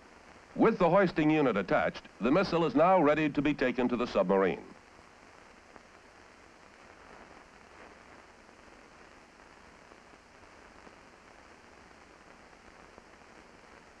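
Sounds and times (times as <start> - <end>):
film soundtrack surface noise: 0.0 - 14.0.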